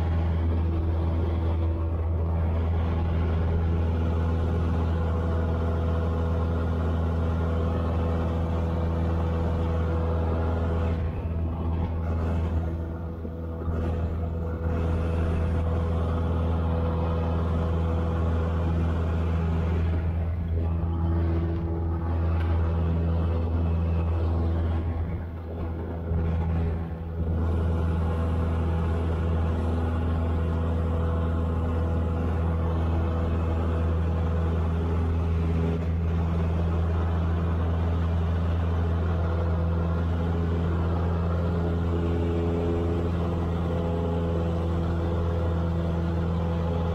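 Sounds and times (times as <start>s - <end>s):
airplane engine droning: 0.0s - 46.9s.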